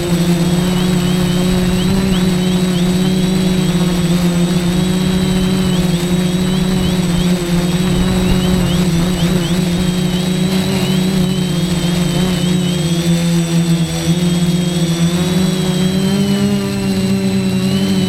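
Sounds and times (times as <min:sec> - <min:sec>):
quadcopter motors buzzing: 0:00.0 - 0:18.0.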